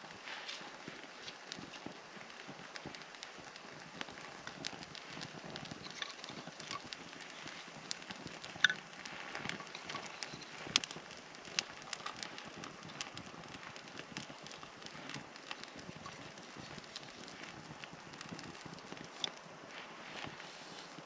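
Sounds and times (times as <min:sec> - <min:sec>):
campfire crackling: 0:00.0 - 0:21.0
fire popping and snapping: 0:00.0 - 0:21.0.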